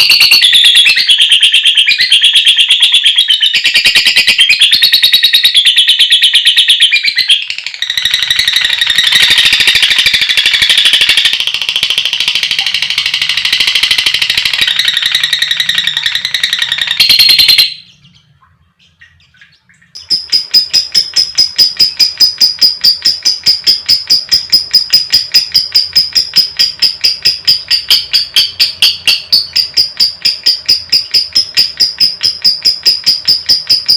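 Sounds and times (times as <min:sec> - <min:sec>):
lovebird chattering trill: 0:00.0 - 0:18.3, 0:20.0 - 0:33.9
high bird chirps: 0:00.0 - 0:33.9.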